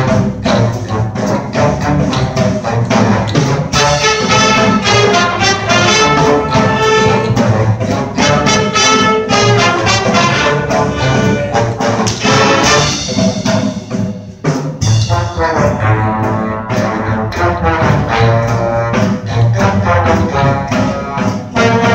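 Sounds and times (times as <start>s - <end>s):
big band jazz: 0.0s - 21.9s.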